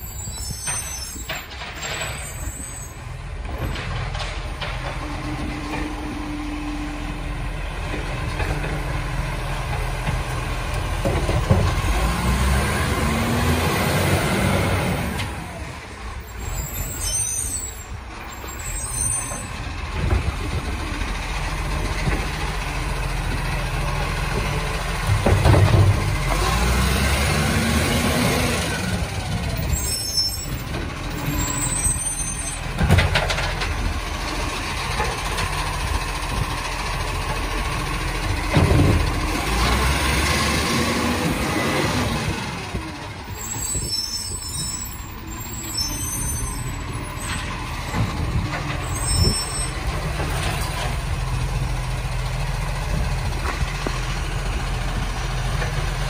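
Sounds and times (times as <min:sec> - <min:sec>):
garbage truck diesel engine: 0:00.0 - 0:56.0
hydraulic arm lifting bins: 0:00.1 - 0:56.0.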